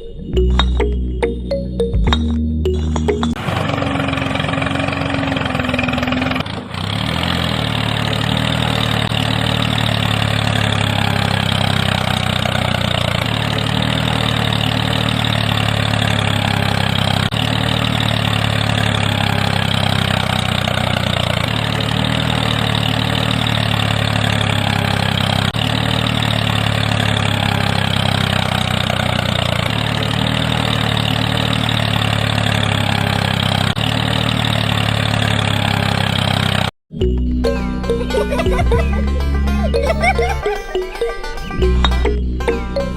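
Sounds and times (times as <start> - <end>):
tractor engine idling: 2.2 - 42.9.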